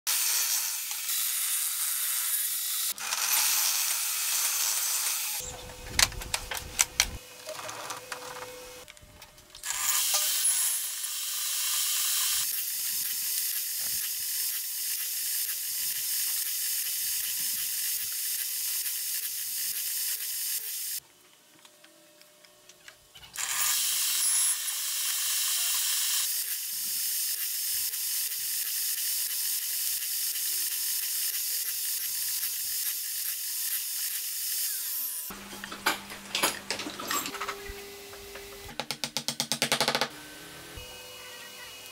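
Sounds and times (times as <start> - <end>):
table saw cutting wood: 0.1 - 8.9, 9.6 - 21.0, 23.4 - 38.7.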